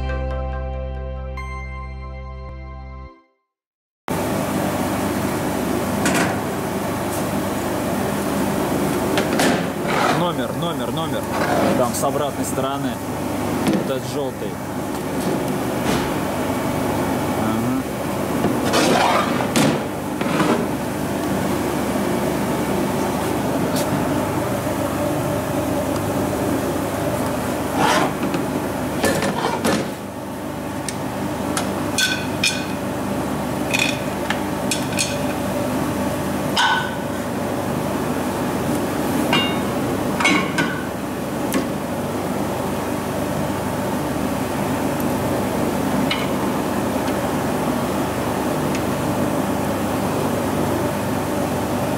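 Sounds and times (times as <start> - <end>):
workshop machinery humming: 4.1 - 51.9.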